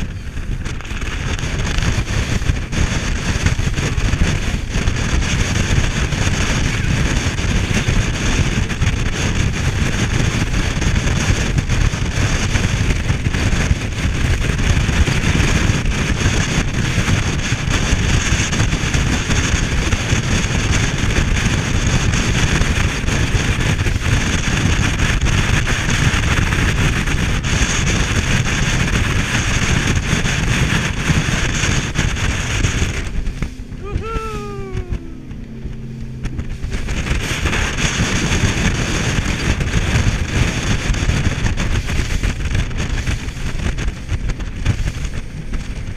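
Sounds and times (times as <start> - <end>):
boat engine: 0.0 - 45.9
water rushing along hull: 0.0 - 45.9
wind buffeting microphone: 0.0 - 45.9.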